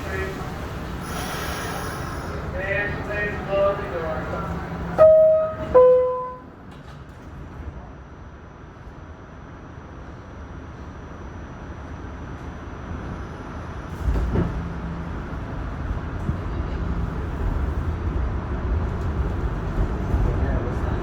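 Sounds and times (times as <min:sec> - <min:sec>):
subway train rumbling in tunnel: 0:00.0 - 0:21.0.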